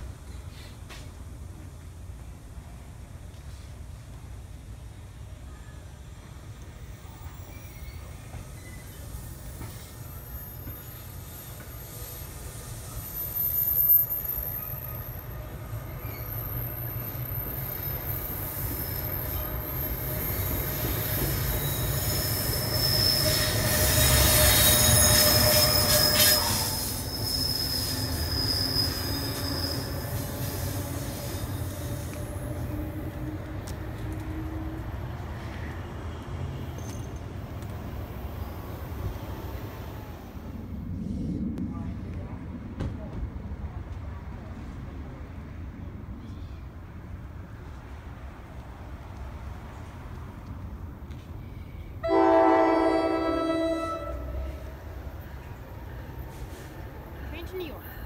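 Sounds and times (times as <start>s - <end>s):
electric train passing: 0.0s - 58.0s
wheels squealing on rails: 5.4s - 41.6s, 46.1s - 58.0s.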